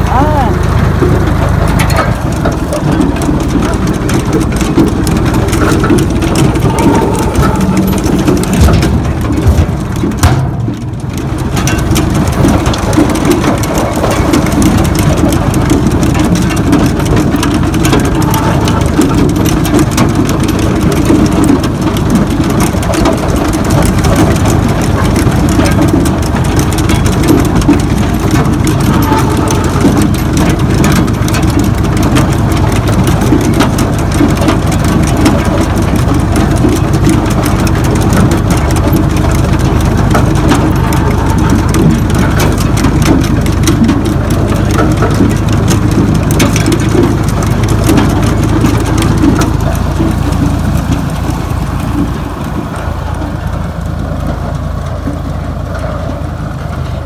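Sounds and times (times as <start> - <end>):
planter chain rattling: 0.0 - 57.0
tractor engine running: 0.0 - 57.0.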